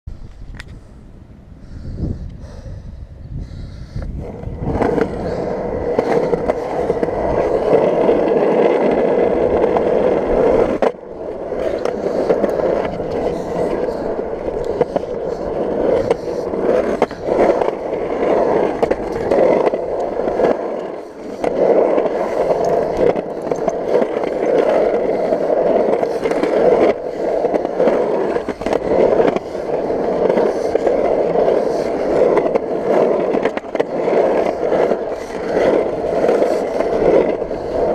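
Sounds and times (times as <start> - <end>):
skateboard wheels on concrete: 0.0 - 37.9
wheels clicking over cracks: 4.0 - 37.9.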